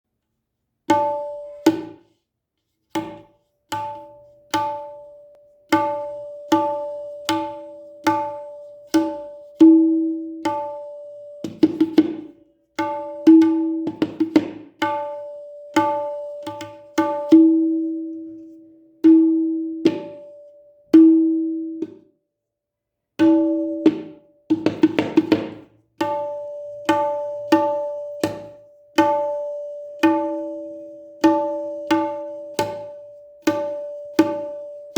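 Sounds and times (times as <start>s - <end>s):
tabla open strokes ringing: 0.9s - 22.0s, 23.2s - 34.9s.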